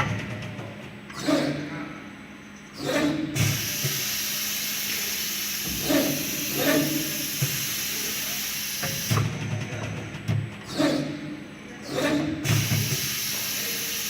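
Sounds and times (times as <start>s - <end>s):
cnc machine hissing: 1.2s - 9.3s, 10.6s - 14.0s.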